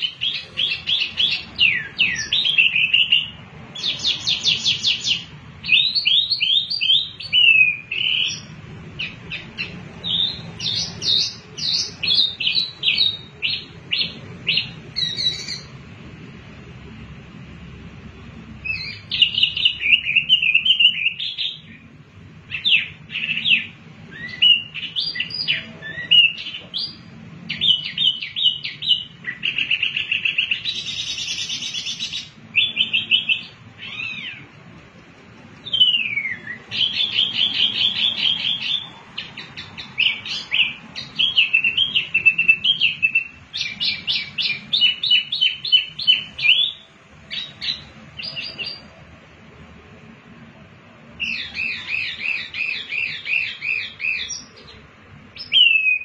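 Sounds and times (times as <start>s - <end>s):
songbird singing trills and whistles: 0.0s - 15.8s, 18.6s - 21.9s, 22.5s - 34.5s, 35.6s - 49.0s, 51.2s - 56.0s.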